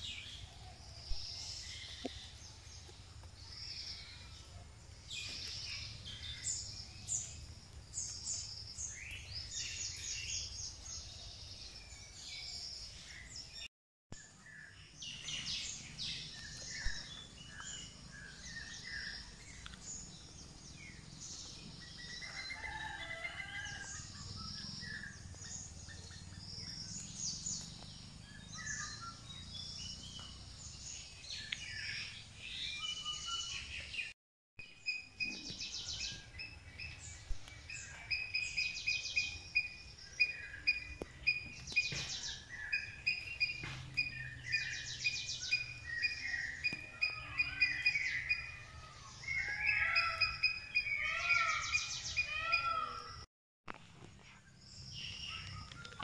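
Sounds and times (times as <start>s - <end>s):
birds calling and chirping: 0.0s - 53.3s, 54.1s - 56.0s.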